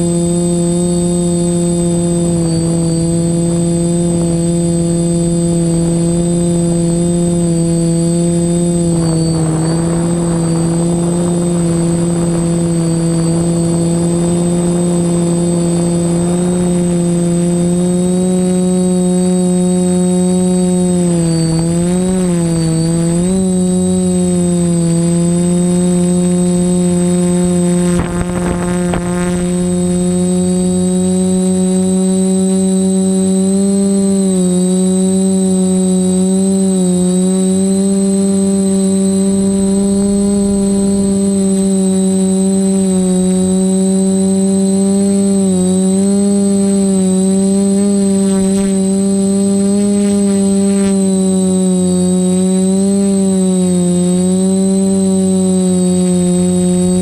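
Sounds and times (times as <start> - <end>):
drone propellers buzzing: 0.0 - 57.0
thin high whine: 0.0 - 57.0.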